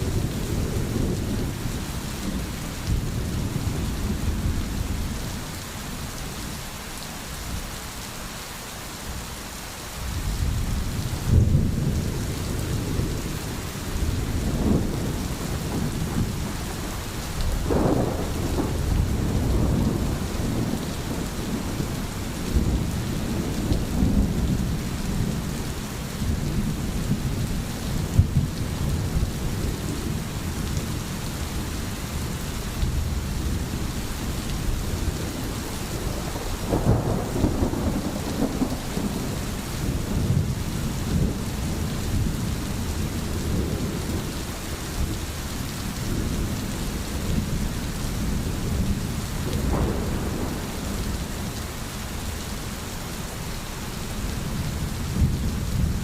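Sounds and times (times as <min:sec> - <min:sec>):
low rolling thunder: 0:00.0 - 0:05.6, 0:10.2 - 0:51.8, 0:54.3 - 0:56.0
steady rain: 0:00.0 - 0:56.0.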